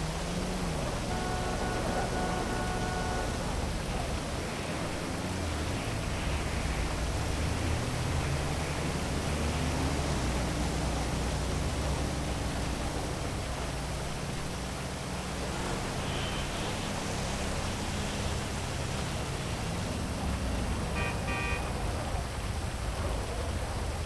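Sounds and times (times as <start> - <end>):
heavy rain hissing: 0.0 - 23.7
low traffic rumble: 0.0 - 24.0.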